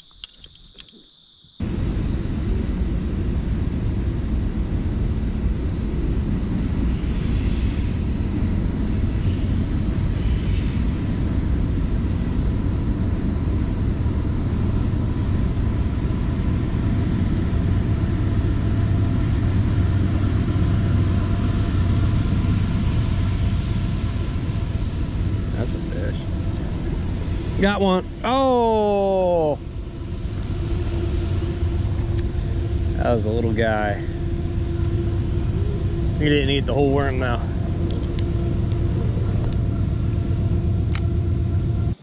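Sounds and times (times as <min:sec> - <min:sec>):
faint electric motor whine: 0:00.0 - 0:42.0
wind rumble on microphone: 0:01.6 - 0:28.3, 0:29.6 - 0:42.0.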